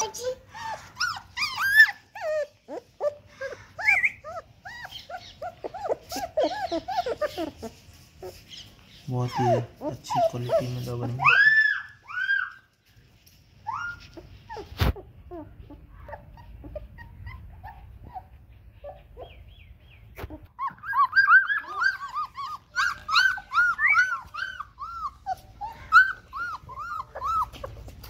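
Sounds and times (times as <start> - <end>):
puppies squealing and whining: 0.0 - 28.0.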